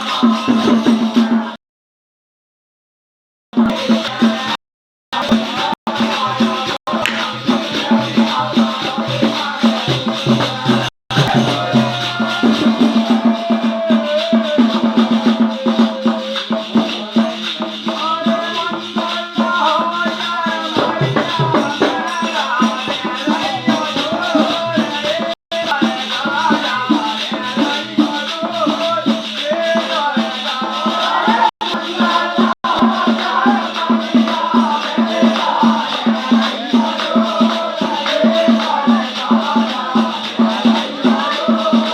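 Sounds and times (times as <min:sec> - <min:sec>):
rattling percussion: 0:00.0 - 0:01.6, 0:03.6 - 0:04.6, 0:05.2 - 0:41.9
person singing: 0:05.2 - 0:41.9.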